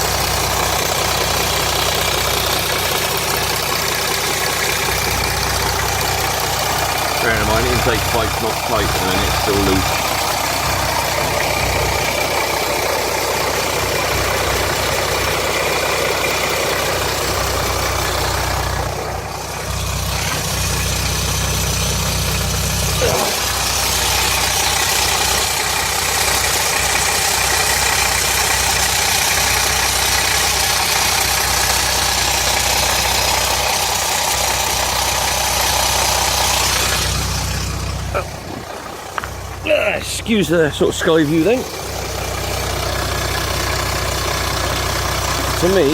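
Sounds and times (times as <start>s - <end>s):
diesel engine idling with rattle: 0.0s - 45.9s.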